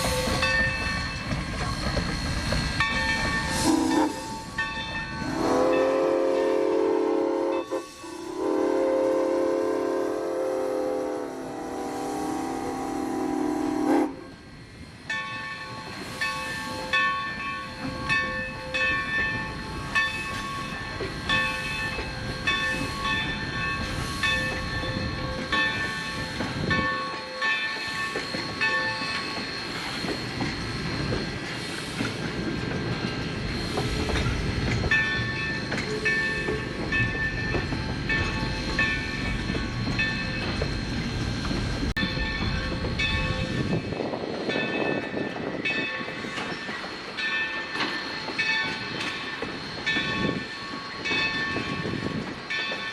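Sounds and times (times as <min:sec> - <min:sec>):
steam train rumbling: 0:00.0 - 0:52.9.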